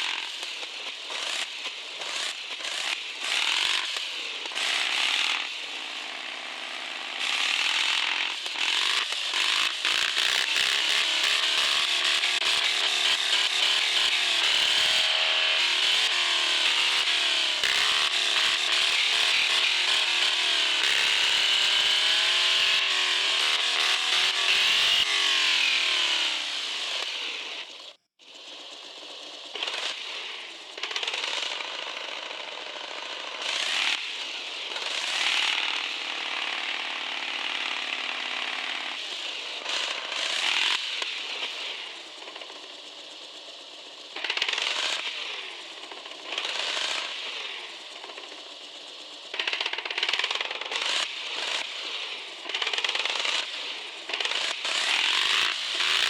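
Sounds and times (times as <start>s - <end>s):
rc truck motor whirring: 0.0s - 56.0s.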